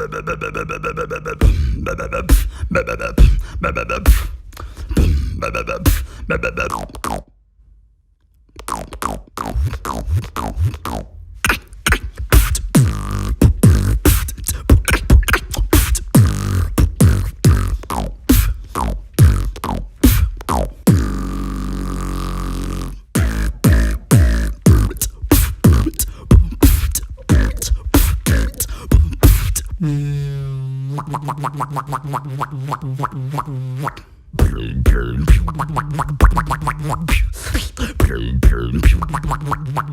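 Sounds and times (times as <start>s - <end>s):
beatboxing: 0.0s - 7.3s, 8.5s - 39.9s.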